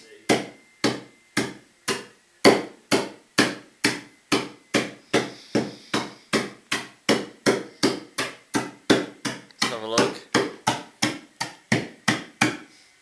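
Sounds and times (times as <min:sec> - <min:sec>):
hammer striking pasta: 0:00.3 - 0:12.7.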